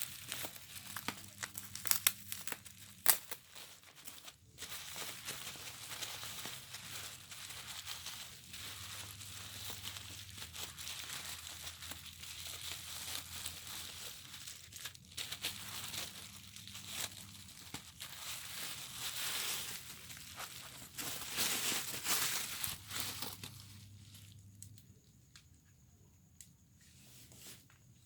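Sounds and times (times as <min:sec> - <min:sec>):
packaging tearing: 0:00.0 - 0:23.9
plastic packaging crinkling: 0:00.0 - 0:24.8.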